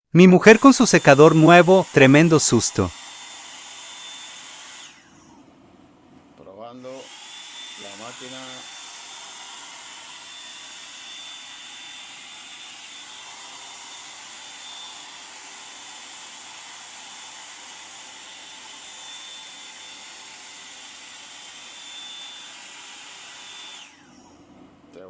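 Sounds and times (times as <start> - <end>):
hair dryer running: 0.5 - 25.0.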